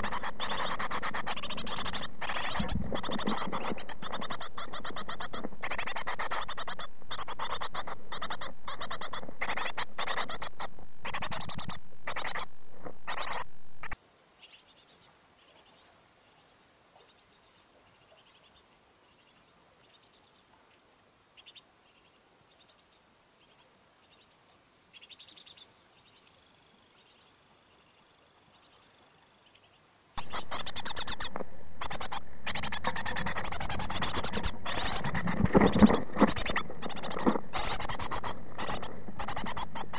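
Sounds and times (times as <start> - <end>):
nestlings begging calls: 0.0 - 18.4, 21.4 - 26.4, 28.5 - 39.9.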